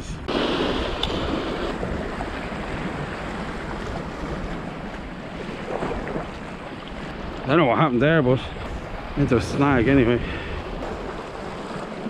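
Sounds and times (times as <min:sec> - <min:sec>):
wind buffeting microphone: 0:00.0 - 0:12.0
surf breaking over rocks: 0:00.2 - 0:12.0.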